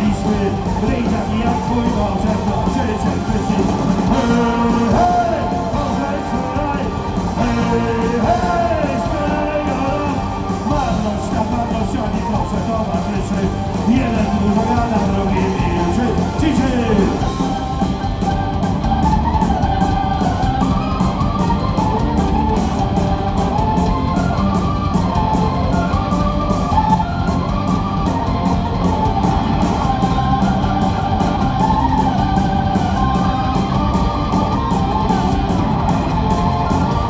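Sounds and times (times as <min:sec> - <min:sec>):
bass guitar: 0:00.0 - 0:37.0
electric guitar melody: 0:00.0 - 0:37.0
steady drum beat: 0:00.0 - 0:37.0.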